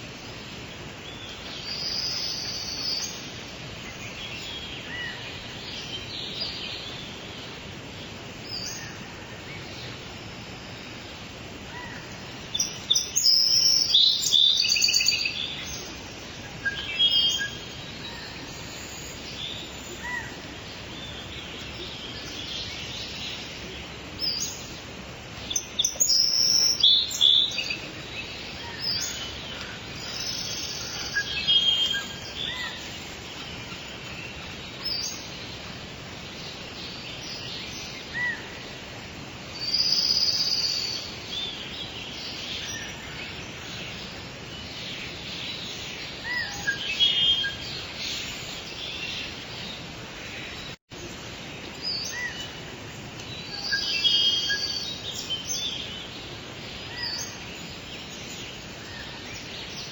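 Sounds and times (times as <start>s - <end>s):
rain hissing: 0.0s - 59.9s
birds chirping and singing: 0.5s - 59.9s.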